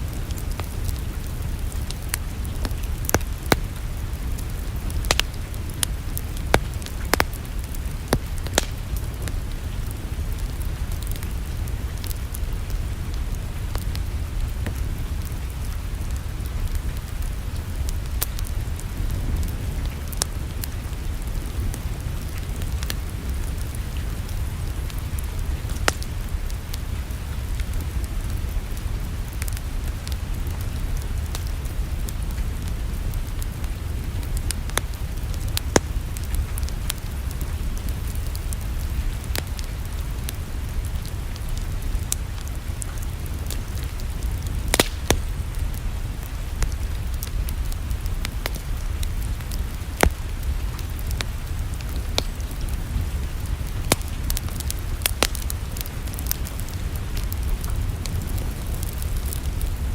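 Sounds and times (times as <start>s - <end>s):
wood fire crackling: 0.0s - 59.9s
sharp pops from fire: 0.1s - 12.6s, 13.7s - 28.5s, 33.3s - 59.8s.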